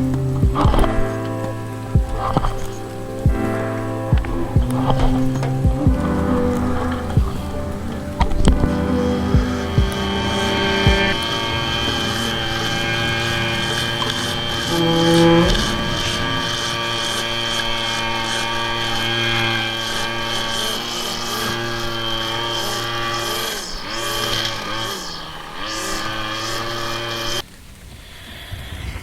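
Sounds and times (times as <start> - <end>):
small petrol engine running: 4.1 - 27.4.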